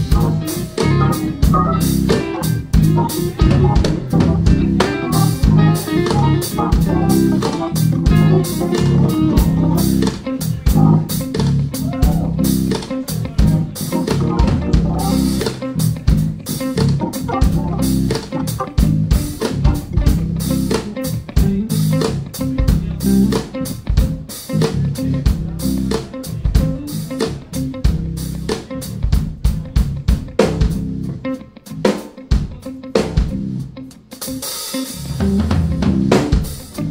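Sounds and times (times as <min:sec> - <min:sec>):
drum kit: 0:00.0 - 0:36.9
electric bass guitar: 0:00.0 - 0:36.9
electric guitar: 0:00.0 - 0:36.9.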